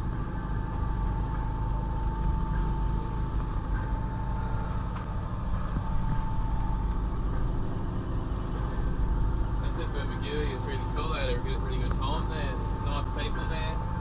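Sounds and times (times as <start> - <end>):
engine droning with thin whine: 0.0 - 14.0.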